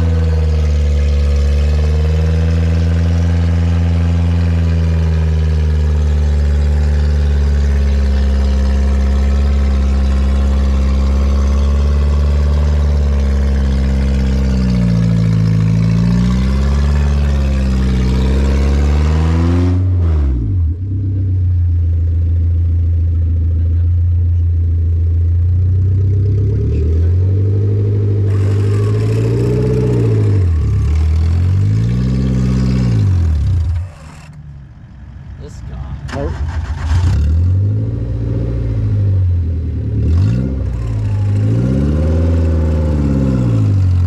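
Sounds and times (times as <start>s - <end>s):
off-road engine revving: 0.0s - 21.7s, 25.4s - 34.4s, 35.4s - 44.0s.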